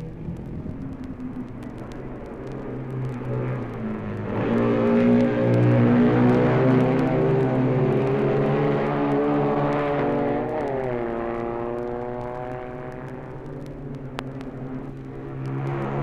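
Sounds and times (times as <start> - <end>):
racing engine: 0.0 - 16.0
vinyl record clicks: 0.0 - 16.0.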